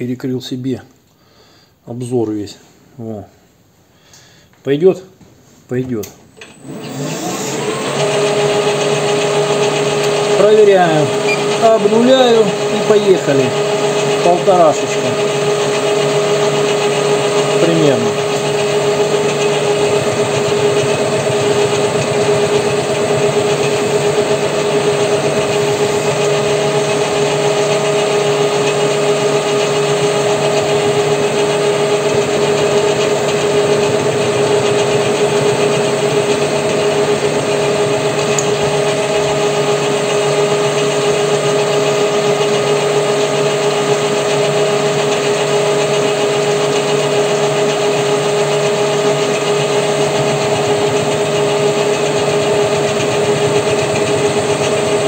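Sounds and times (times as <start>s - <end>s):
metal lathe whining: 6.5s - 55.0s.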